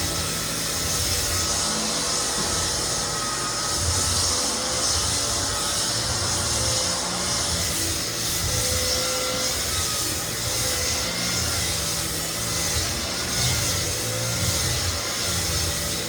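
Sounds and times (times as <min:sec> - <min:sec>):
floor sander sanding wood: 0:00.0 - 0:16.0.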